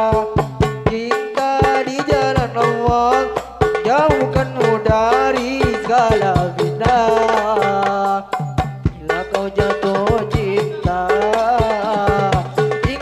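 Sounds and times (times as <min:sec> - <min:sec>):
frame drums rhythm: 0:00.0 - 0:13.0
man singing amplified: 0:00.0 - 0:13.0.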